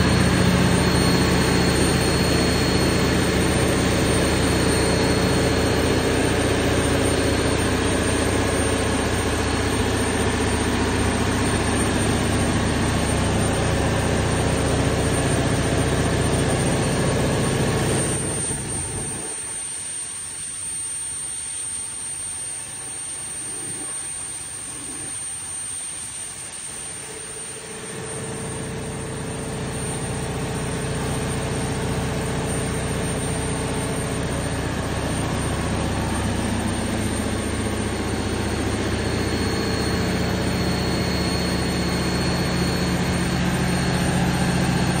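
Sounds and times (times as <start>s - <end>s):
diesel generator engine humming: 0.0s - 19.3s, 27.6s - 45.0s
faint high whine: 0.0s - 45.0s.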